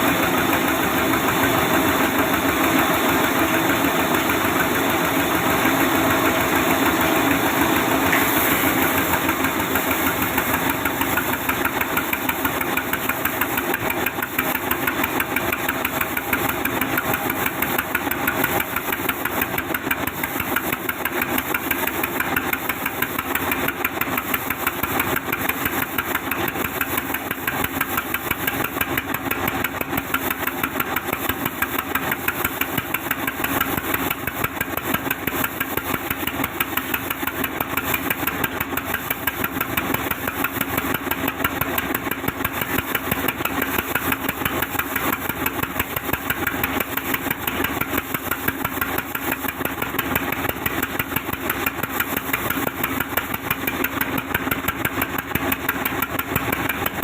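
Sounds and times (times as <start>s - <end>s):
wood saw machine running: 0.0s - 57.0s.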